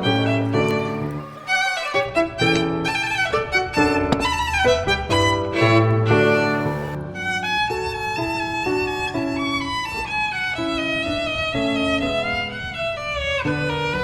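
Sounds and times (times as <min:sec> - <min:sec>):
violin melody with accompaniment: 0:00.0 - 0:14.0.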